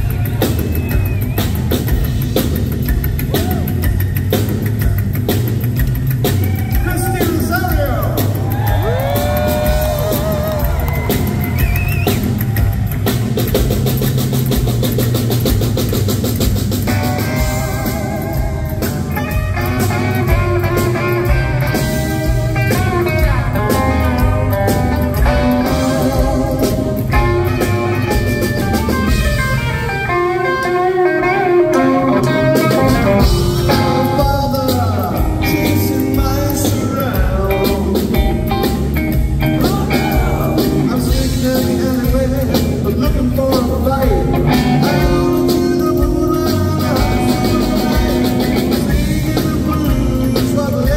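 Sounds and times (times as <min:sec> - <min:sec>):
upright bass: 0:00.0 - 0:30.4, 0:31.0 - 0:50.9
drum kit: 0:00.0 - 0:50.9
electric guitar lead: 0:00.0 - 0:50.9.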